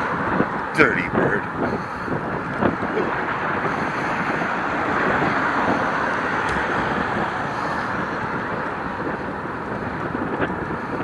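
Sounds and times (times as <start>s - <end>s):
road and traffic noise: 0.0s - 11.0s
wind on microphone: 0.0s - 11.0s.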